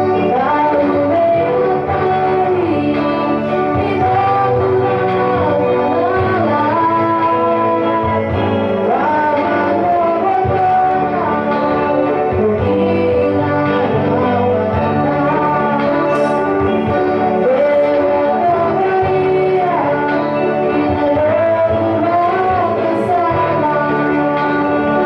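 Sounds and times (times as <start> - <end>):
girls singing gospel song: 0.0 - 25.0
musical accompaniment: 0.0 - 25.0.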